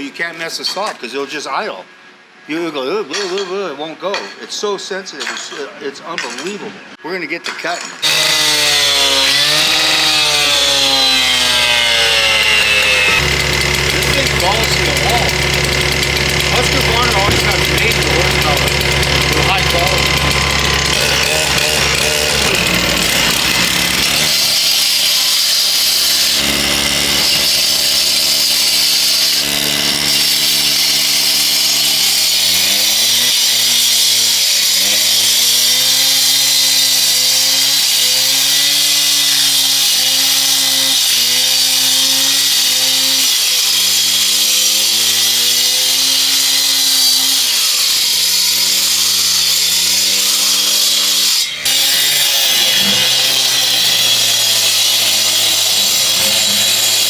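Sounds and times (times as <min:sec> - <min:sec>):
power cutter cutting concrete: 0:08.0 - 0:57.0.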